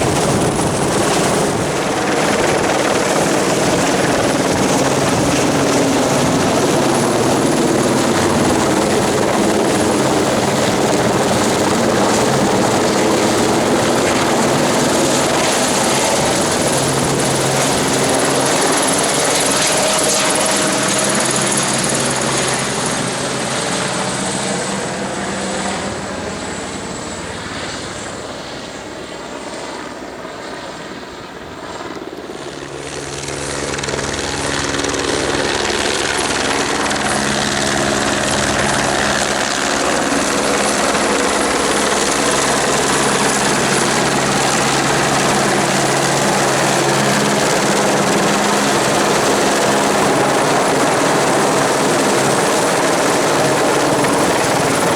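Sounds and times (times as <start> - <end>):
helicopter running: 0.0 - 54.9.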